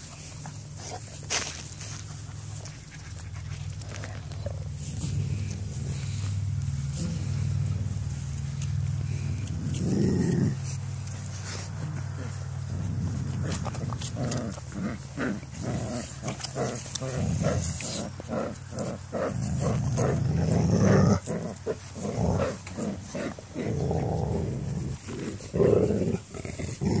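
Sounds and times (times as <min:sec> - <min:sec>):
puppies growling: 0:00.0 - 0:27.0.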